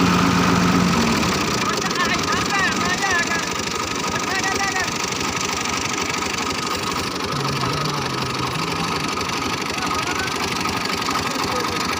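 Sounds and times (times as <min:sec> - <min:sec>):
diesel engine running: 0:00.0 - 0:11.9.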